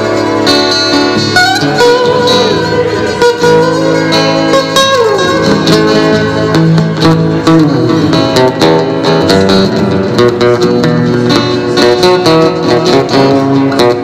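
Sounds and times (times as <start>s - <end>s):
guitar picking and chords: 0.0s - 14.0s.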